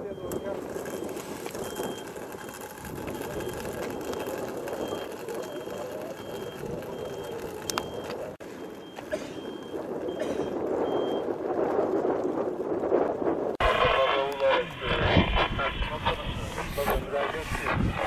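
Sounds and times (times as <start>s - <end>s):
measuring wheel rolling on asphalt: 0.0s - 11.4s, 13.5s - 18.0s.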